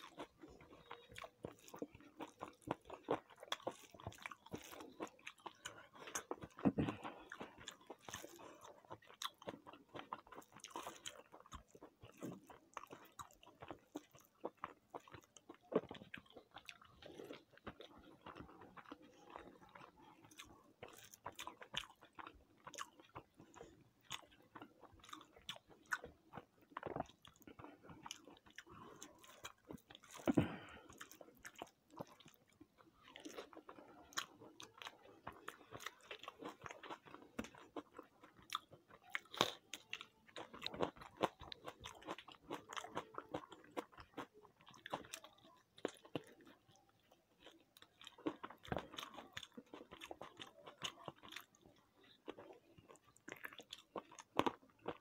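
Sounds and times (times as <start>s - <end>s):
chewing and biting food: 0.0s - 55.0s.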